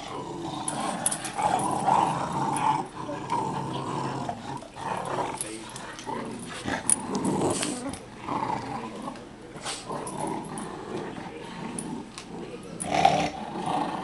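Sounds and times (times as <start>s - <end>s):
dogs growling playfully: 0.0s - 14.0s.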